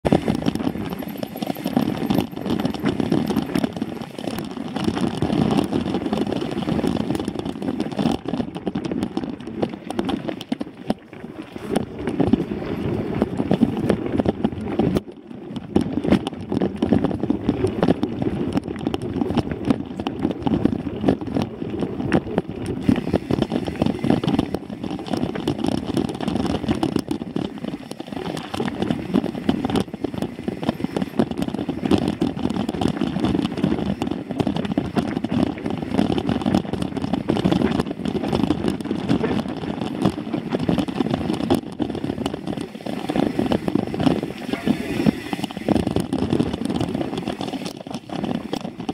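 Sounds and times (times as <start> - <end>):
bike rattling over bumps: 0.0 - 48.9
tyre rumble: 0.0 - 48.9.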